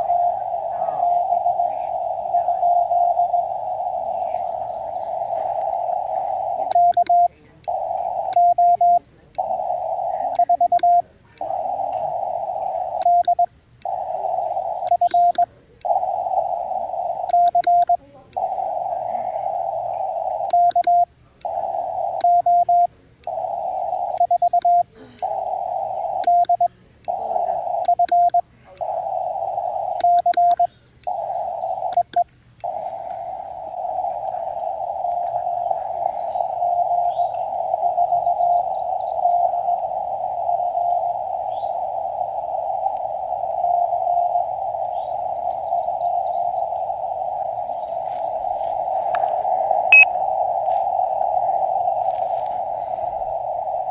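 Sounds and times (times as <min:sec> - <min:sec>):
morse code tone: 0:00.0 - 0:53.9
radio band noise hiss: 0:00.0 - 0:53.9.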